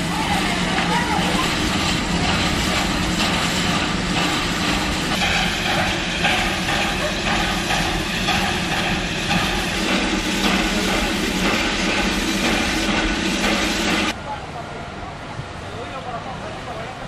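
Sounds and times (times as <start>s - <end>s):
steam locomotive rumble and hiss: 0.0s - 14.3s.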